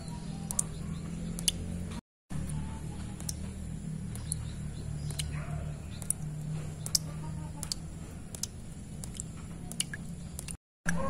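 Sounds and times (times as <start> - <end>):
water drops plinking into puddle: 0.0 - 1.7, 2.4 - 11.0.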